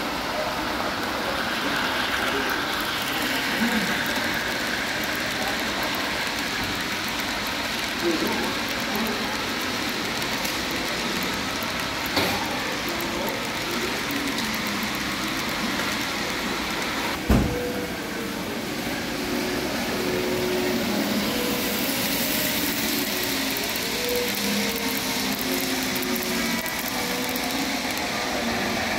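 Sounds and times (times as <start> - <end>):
large hall background noise: 0.0 - 28.9.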